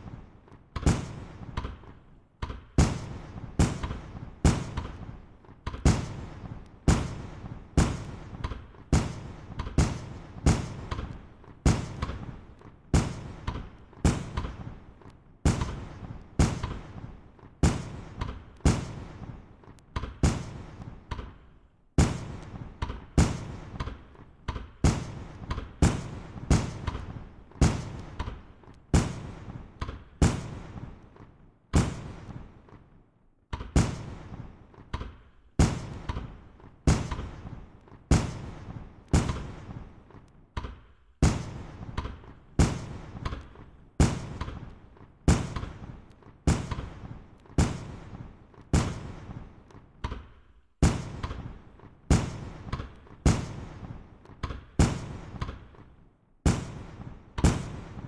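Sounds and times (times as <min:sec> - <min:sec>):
fireworks bursting with echo: 0:00.0 - 0:58.0.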